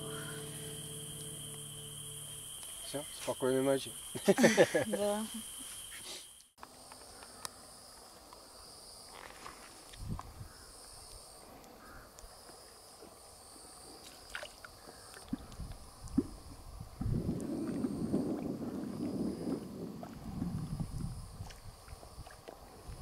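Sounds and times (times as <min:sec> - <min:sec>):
night insects chirring: 0:00.0 - 0:23.0.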